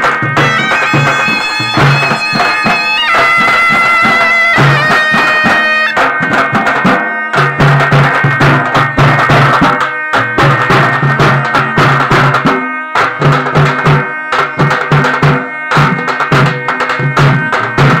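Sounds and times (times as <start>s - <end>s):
drums beaten in driving rhythm: 0.0s - 18.0s
high wind instrument melody: 0.0s - 18.0s.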